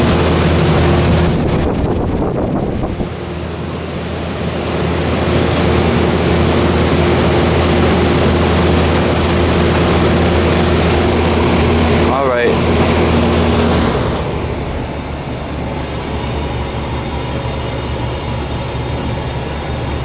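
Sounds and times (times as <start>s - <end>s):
compressor hum: 0.0s - 20.0s
fan rushing: 0.0s - 20.0s.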